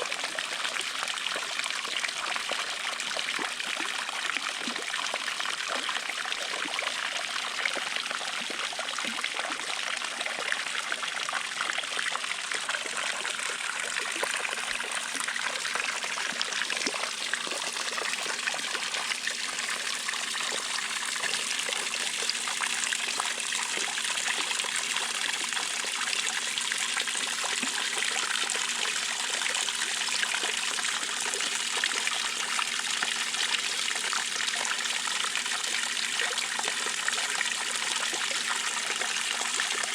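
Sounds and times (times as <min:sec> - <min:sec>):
water pouring and splashing: 0:00.0 - 0:39.9.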